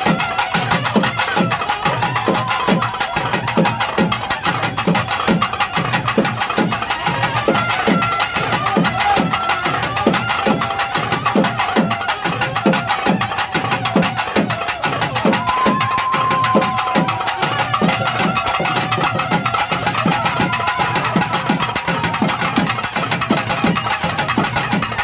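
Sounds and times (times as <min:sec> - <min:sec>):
fast dense drumming: 0:00.0 - 0:25.0
wind instrument long notes: 0:00.0 - 0:25.0.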